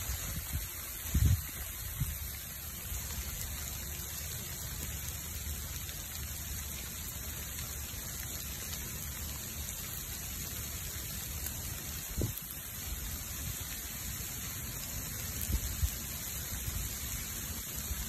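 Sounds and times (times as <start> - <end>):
hiss of rain and flames: 0.0 - 18.0.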